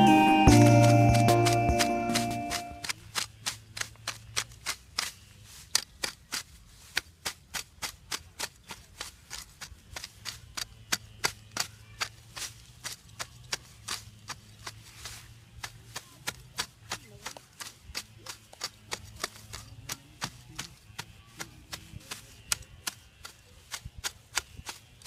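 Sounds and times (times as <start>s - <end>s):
machete chopping into turf: 0.5s - 20.8s.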